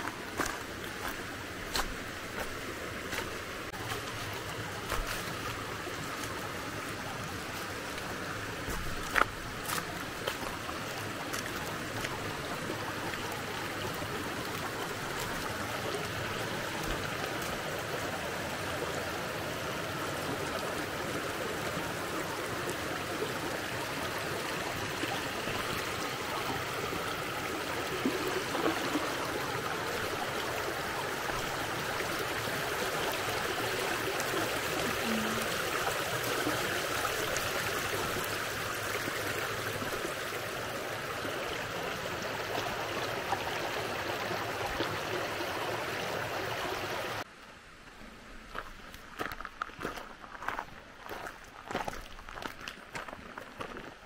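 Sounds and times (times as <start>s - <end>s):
stream rushing over stones: 0.0s - 47.3s, 48.4s - 54.0s.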